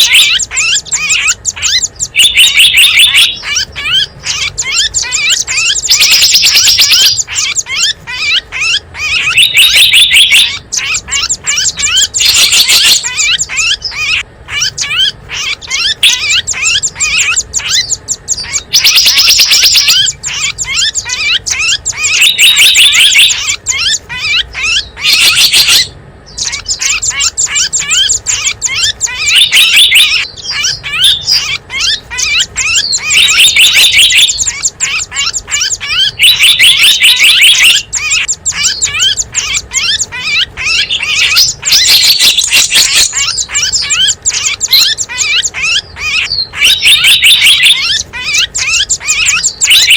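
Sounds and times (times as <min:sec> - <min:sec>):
dense bird trill: 0:00.0 - 0:49.9
small birds chirping rapidly: 0:00.0 - 0:49.9.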